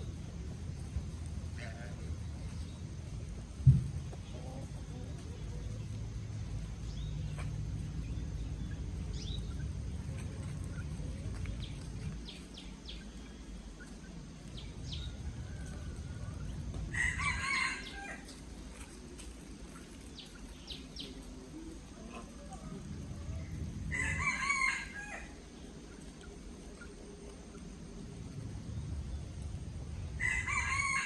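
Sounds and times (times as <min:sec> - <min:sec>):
low rumble: 0:00.0 - 0:17.3, 0:18.2 - 0:24.6, 0:25.3 - 0:30.9
chickens calling: 0:00.0 - 0:31.0.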